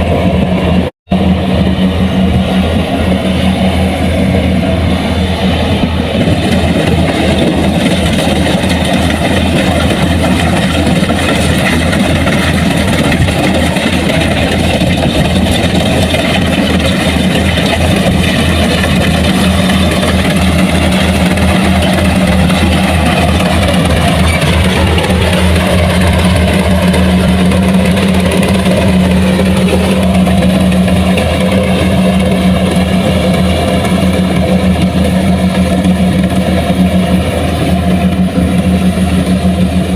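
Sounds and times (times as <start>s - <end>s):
farm machinery engine running: 0.0s - 39.9s.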